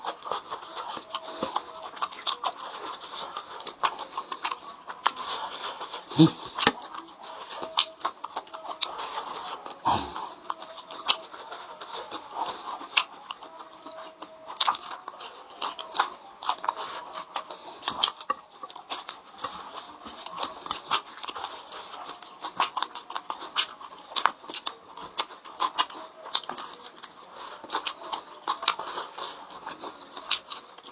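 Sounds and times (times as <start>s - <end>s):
person chewing and smacking: 0.0s - 30.9s.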